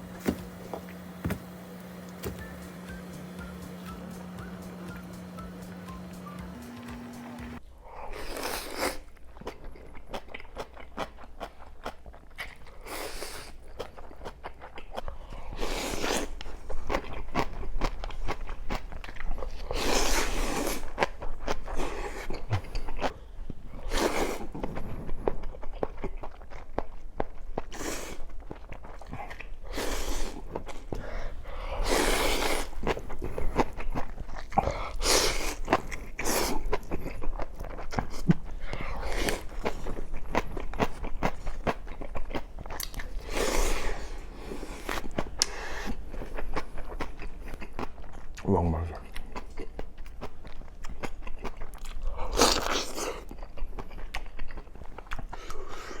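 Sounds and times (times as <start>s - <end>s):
person chewing mushroom crunchily: 7.8s - 56.0s.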